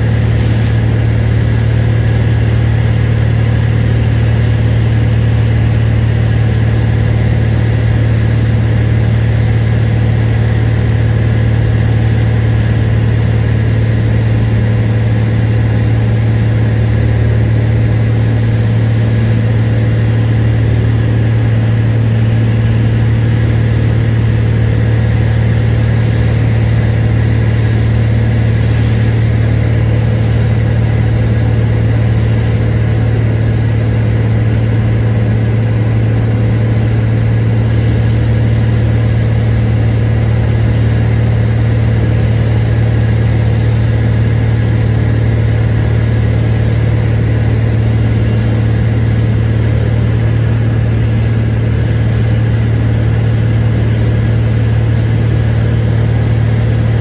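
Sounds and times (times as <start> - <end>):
plane engine drone in cabin: 0.0 - 57.0.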